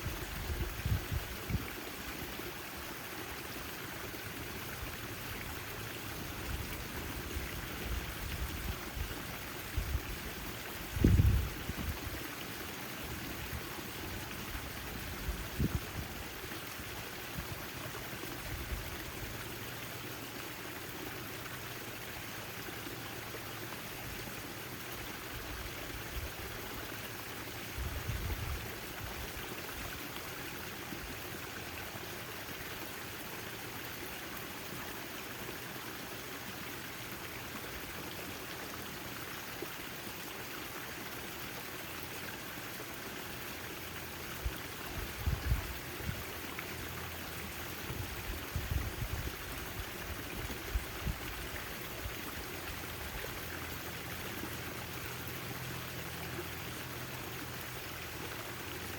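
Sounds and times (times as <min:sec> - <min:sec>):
fountain water splashing: 0:00.0 - 0:58.9.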